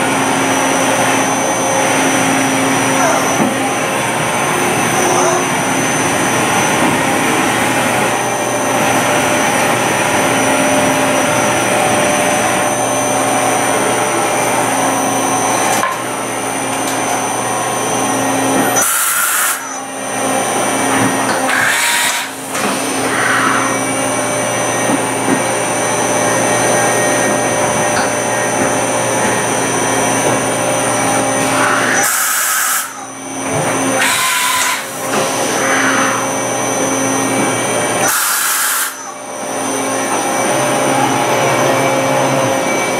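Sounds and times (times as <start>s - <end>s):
high motor whines: 0.0s - 42.9s
lathe mechanical drone: 0.0s - 42.9s.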